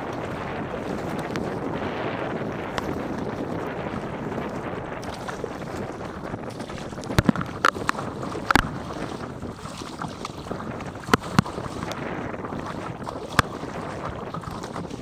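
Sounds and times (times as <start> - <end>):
paddle slapping water: 0.0 - 15.0
wind on microphone: 0.0 - 15.0.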